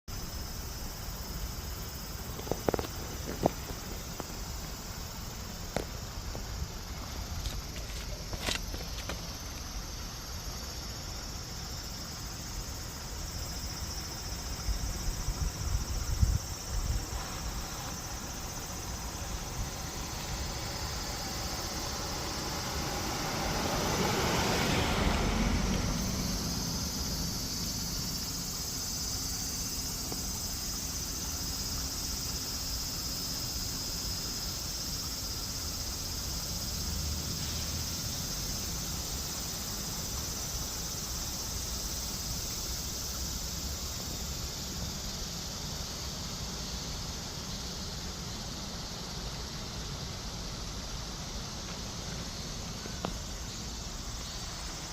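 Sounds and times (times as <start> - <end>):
high insect chirring: 0.1 - 54.9.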